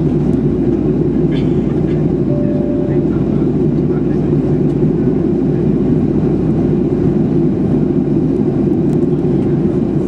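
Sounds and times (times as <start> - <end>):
airplane cabin roar: 0.0 - 10.0.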